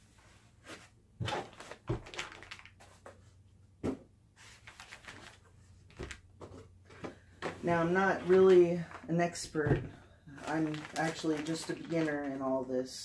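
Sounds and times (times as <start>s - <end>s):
plastic rustling: 1.2s - 3.2s, 4.4s - 13.0s.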